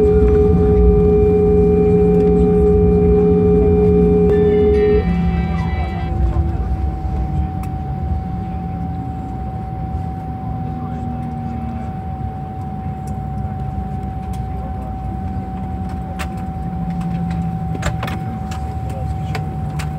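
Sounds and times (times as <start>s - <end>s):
constant engine whine: 0.0s - 19.9s
jet engine rumble: 0.0s - 19.9s.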